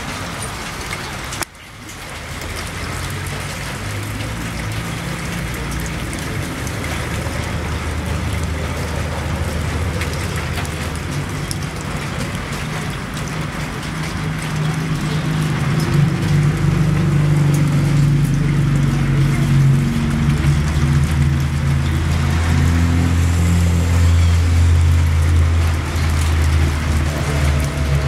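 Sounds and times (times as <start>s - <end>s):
hail hissing and ticking: 0.0s - 28.0s.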